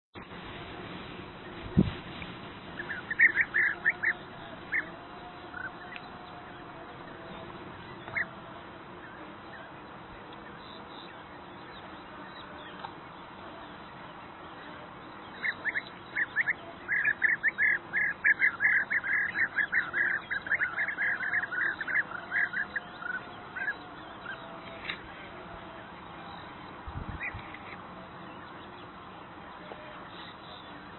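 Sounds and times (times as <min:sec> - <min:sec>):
birds rolling calls: 0:00.3 - 0:30.9.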